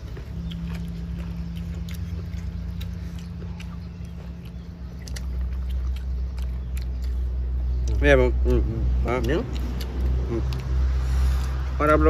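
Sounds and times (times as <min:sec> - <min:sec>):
low engine hum: 0:00.0 - 0:12.0
people chewing and biting: 0:00.0 - 0:12.0.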